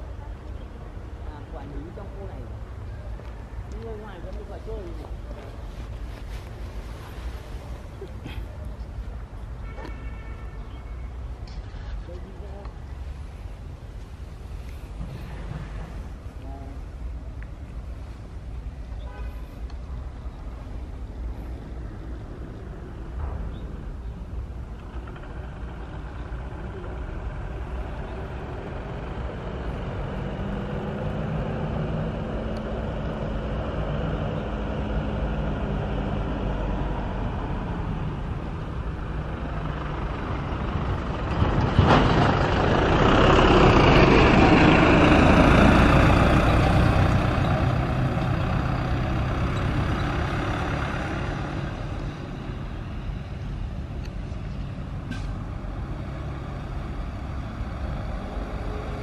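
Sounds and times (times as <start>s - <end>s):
loud rush of passing vehicle: 0.0s - 9.7s, 11.1s - 59.0s
engine rumble: 0.0s - 59.0s.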